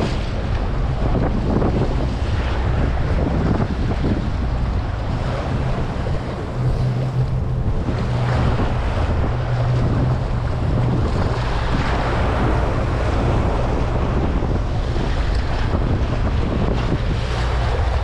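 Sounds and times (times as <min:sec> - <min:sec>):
choppy sea waves: 0:00.0 - 0:18.0
wind buffeting microphone: 0:00.0 - 0:18.0.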